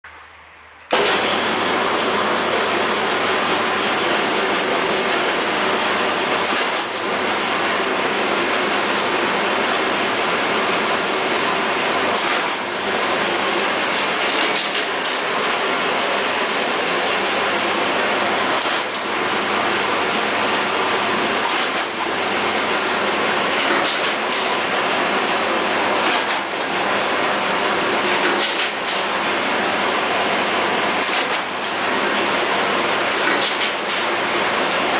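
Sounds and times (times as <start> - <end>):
paper-handling machine running: 0.9 - 34.9.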